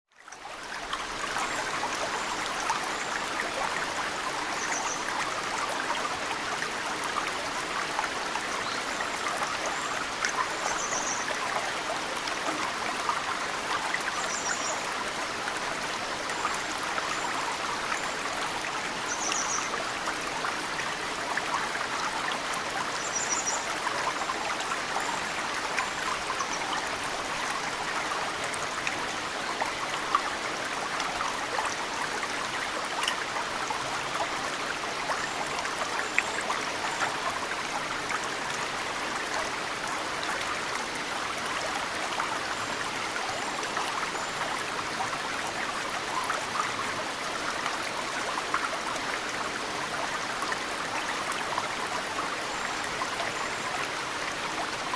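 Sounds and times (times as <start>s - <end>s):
stream running: 0.1s - 54.9s
water trickling and dripping: 0.1s - 54.9s.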